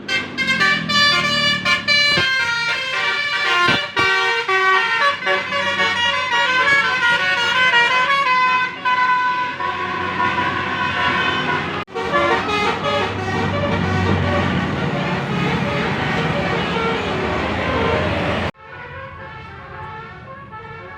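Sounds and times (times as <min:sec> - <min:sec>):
multi-note horn melody: 0:00.0 - 0:20.9.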